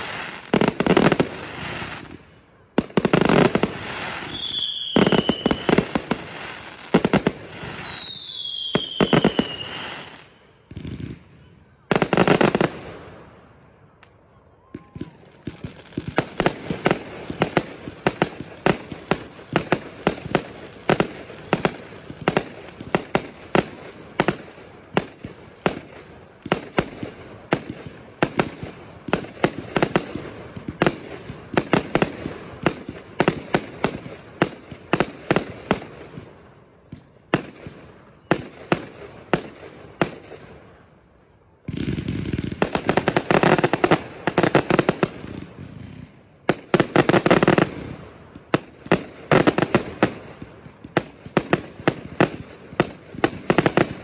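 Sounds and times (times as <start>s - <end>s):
fireworks bangs: 0.0s - 13.6s, 14.6s - 54.0s.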